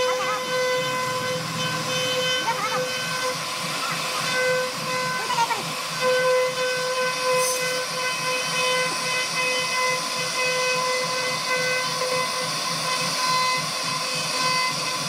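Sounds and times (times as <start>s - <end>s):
cnc router spindle routing wood: 0.0s - 15.0s.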